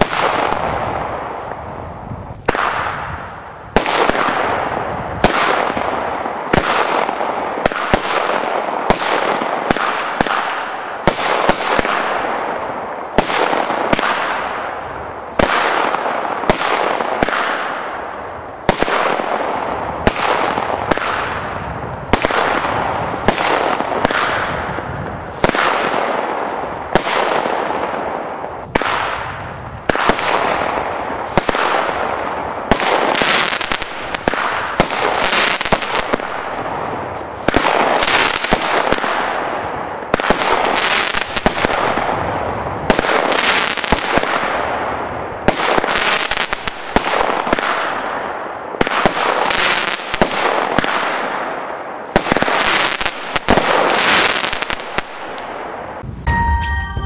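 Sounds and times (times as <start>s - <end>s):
firework battery bangs and crackle: 0.0s - 56.3s.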